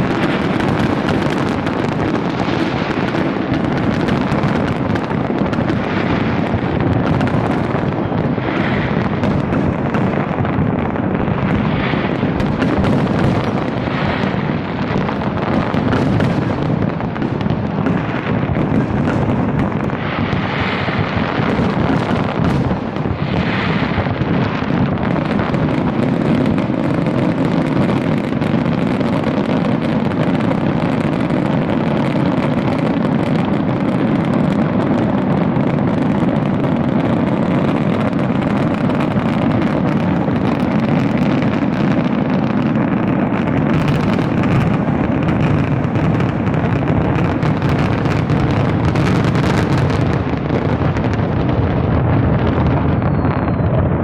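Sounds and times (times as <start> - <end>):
crackling hisses: 0.0 - 54.0
fireworks detonations: 0.0 - 54.0.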